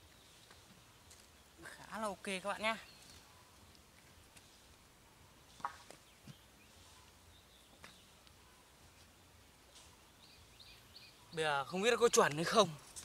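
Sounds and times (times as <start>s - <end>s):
bird chirp: 0.0s - 12.7s.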